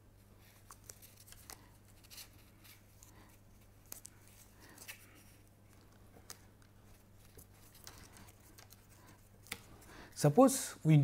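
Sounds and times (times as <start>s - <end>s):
paper clicks and rustles: 0.4s - 9.8s.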